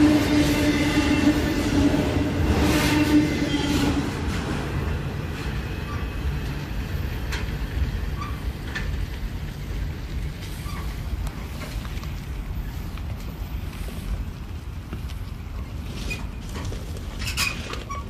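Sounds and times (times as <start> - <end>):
freight train rumbling on rails: 0.0 - 18.0.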